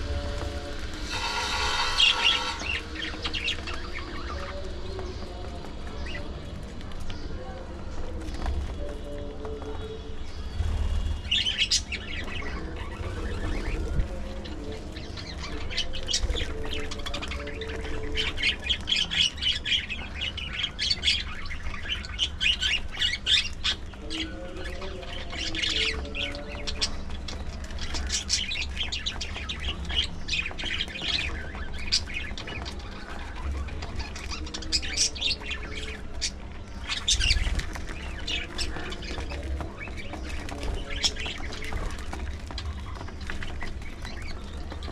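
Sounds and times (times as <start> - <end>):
budgerigars chirping and squawking: 1.0 - 4.6, 10.5 - 44.9.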